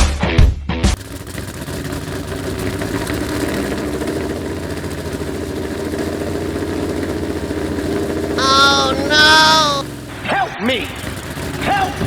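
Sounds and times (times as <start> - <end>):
small engine idling: 0.9 - 12.0.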